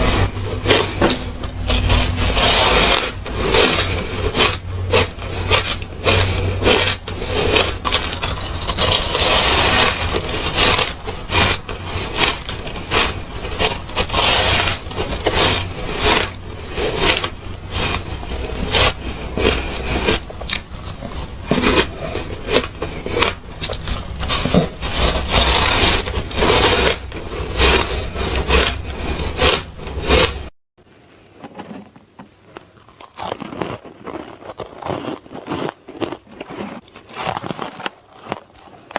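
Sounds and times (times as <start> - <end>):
ice being crunched: 0.0 - 29.6, 31.3 - 38.9.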